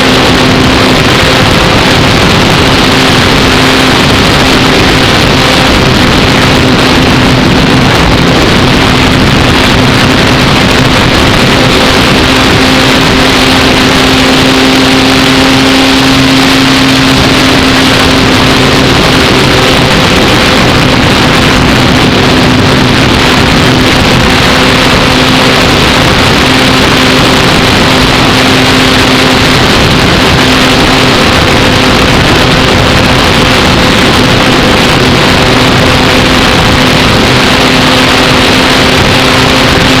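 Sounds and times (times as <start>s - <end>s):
model plane motor droning: 0.0s - 40.0s
wind rush: 0.0s - 40.0s.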